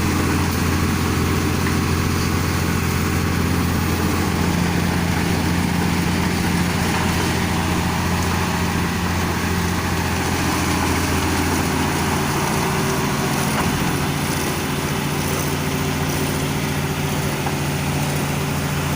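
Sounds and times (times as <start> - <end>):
farm machine engine running: 0.0 - 18.9.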